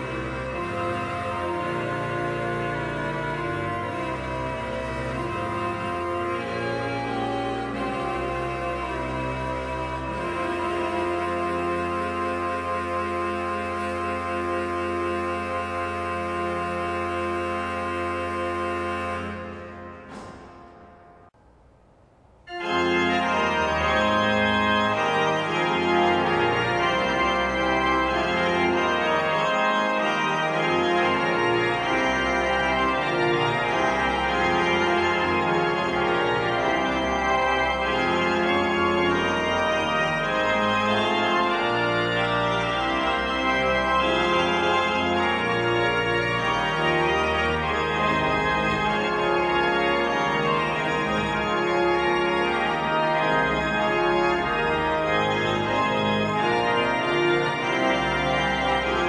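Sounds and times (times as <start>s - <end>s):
pipe organ playing chords: 0.0s - 21.4s, 22.5s - 59.0s.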